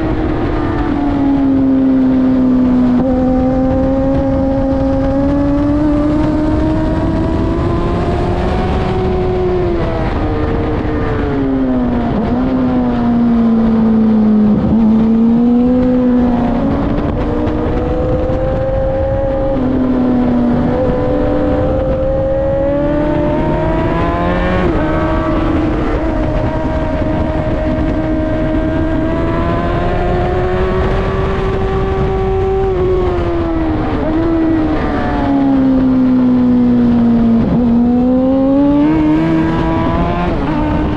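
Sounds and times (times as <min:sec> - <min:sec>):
motorcycle engine revving: 0:00.0 - 0:40.9
wind rush: 0:00.0 - 0:40.9.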